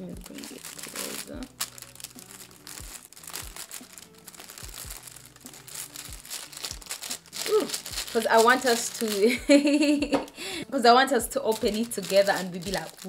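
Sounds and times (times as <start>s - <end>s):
tissue paper crinkling: 0.1s - 9.9s, 11.3s - 13.0s.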